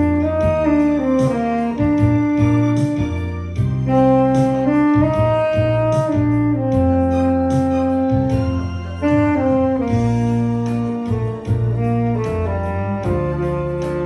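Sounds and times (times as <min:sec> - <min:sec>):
accompaniment with steady beat: 0:00.0 - 0:14.0
tenor saxophone melody: 0:00.0 - 0:14.0.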